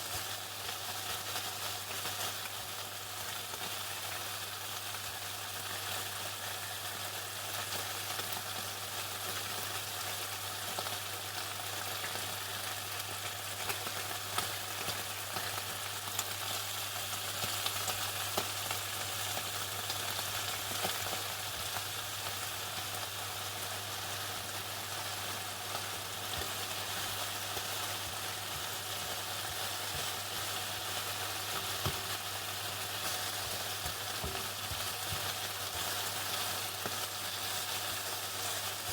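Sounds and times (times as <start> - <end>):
chicken sizzling in hot oil: 0.0 - 38.9
oil crackling and popping: 0.0 - 38.9.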